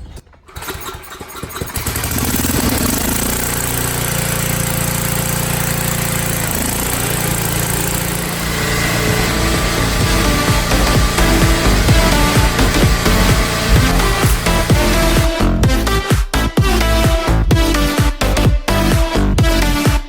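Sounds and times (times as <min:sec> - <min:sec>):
portable generator engine running: 0:00.4 - 0:19.7.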